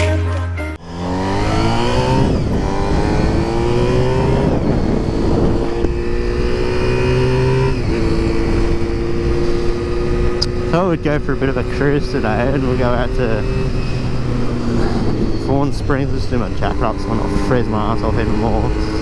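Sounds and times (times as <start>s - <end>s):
motorcycle engine accelerating: 0.7s - 19.0s
road and wind noise: 0.8s - 19.0s.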